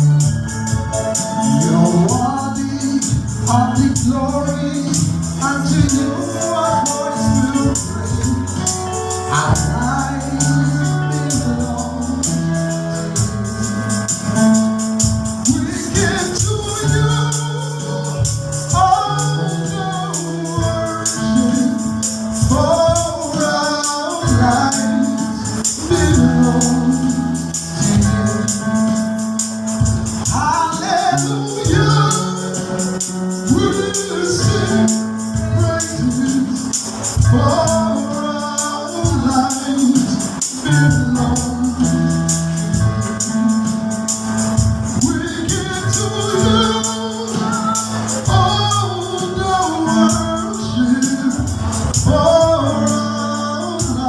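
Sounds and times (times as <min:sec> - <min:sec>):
voices singing: 0:00.0 - 0:14.0, 0:15.4 - 0:29.0, 0:30.2 - 0:43.9, 0:44.9 - 0:54.0
instrumental backing: 0:00.0 - 0:54.0
rhythmic percussion: 0:00.0 - 0:54.0.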